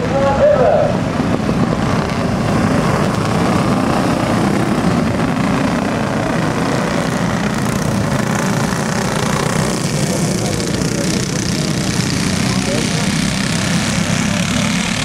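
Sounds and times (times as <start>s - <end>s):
go-kart engines racing: 0.0s - 15.0s.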